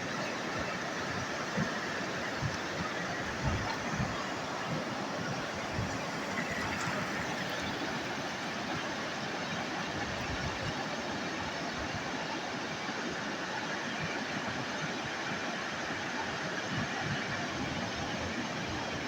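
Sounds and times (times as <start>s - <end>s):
sea waves washing on shore: 0.0s - 19.0s.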